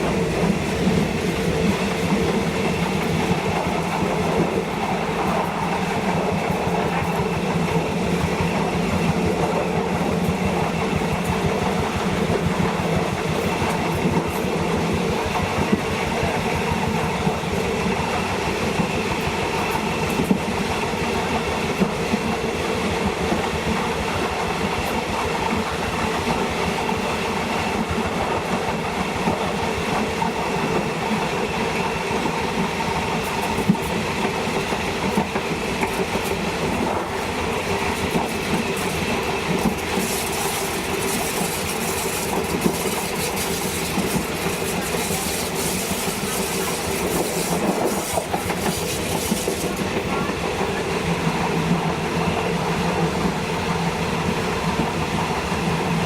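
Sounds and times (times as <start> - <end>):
train wheels clicking on rail joints: 0.0 - 56.0.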